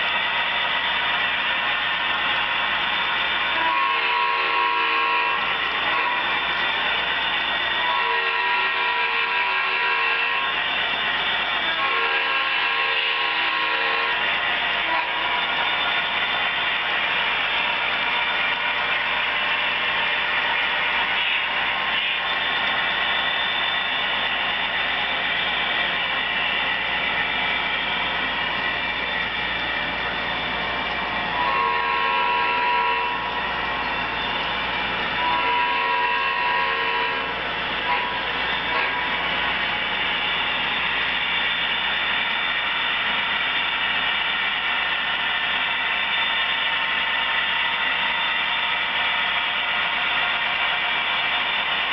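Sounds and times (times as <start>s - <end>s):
model train whirring and rattling: 0.0s - 51.9s.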